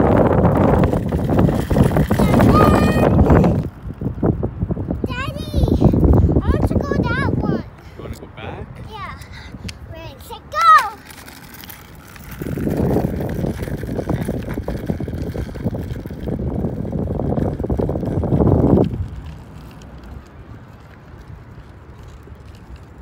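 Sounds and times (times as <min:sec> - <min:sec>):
scooter wheels rolling on asphalt: 0:00.0 - 0:23.0.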